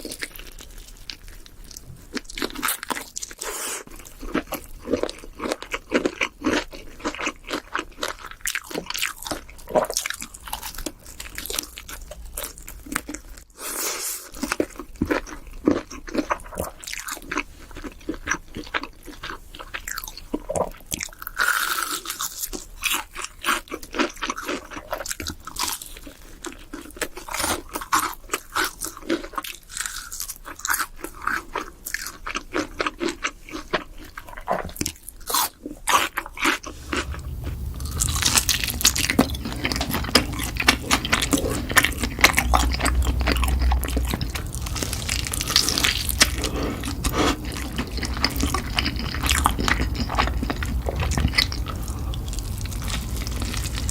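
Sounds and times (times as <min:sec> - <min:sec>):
crunching and chewing fried chicken: 0:00.0 - 0:53.9.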